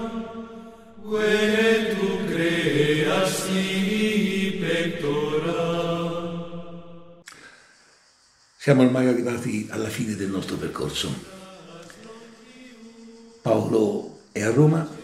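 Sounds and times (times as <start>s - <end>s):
chanted singing: 0.0s - 7.1s, 8.7s - 15.0s.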